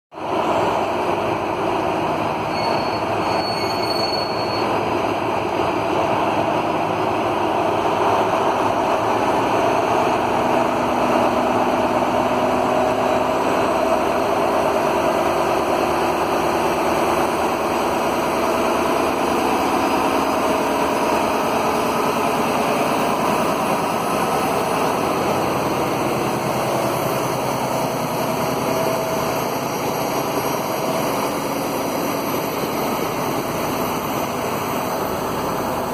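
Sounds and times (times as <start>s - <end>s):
locomotive engine drone: 0.2s - 35.9s
rail and running-gear noise: 0.2s - 35.9s.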